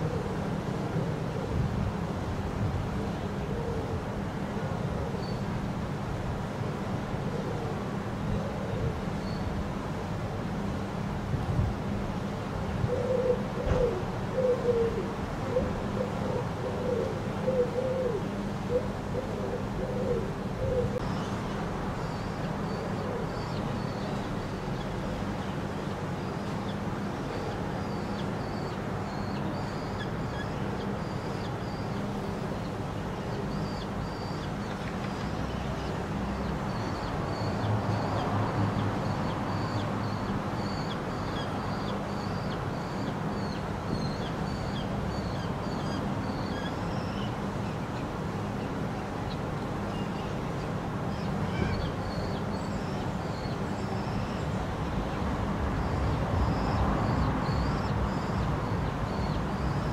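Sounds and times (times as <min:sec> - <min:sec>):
city traffic hum: 0:00.0 - 0:59.9.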